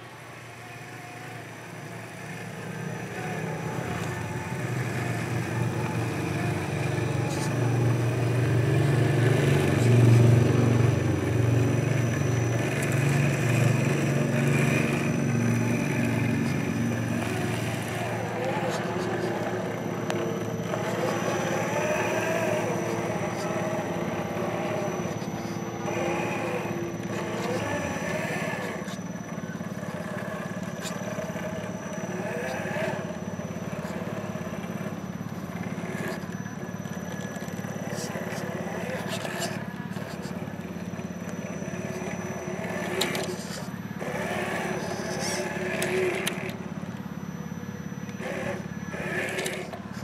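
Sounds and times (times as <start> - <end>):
electric motor whining: 0.0 - 50.0
rapidly pulsing low drone: 1.5 - 50.0
tires scrabbling on rock: 2.0 - 50.0.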